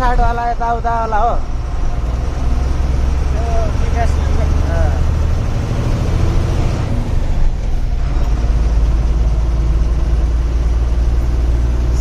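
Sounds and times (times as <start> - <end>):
diesel truck engine drone: 0.0 - 12.0.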